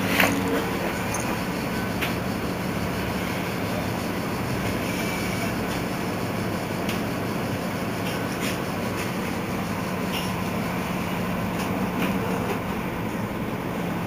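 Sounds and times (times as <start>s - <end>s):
bus engine idling: 0.0s - 14.0s.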